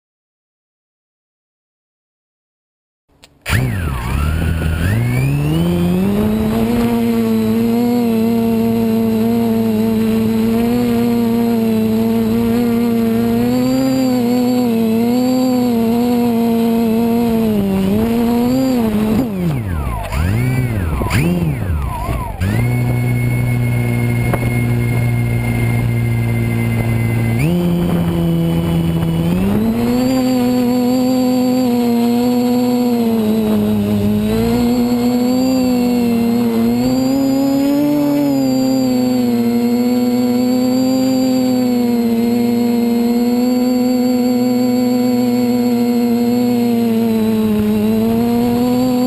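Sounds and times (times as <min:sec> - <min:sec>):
quadcopter motors whining: 0:03.2 - 0:49.0.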